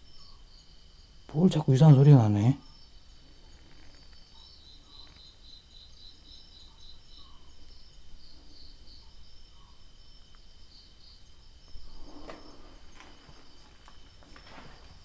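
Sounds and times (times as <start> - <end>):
crickets chirping: 0.0 - 15.0
high insect trill: 0.0 - 15.0.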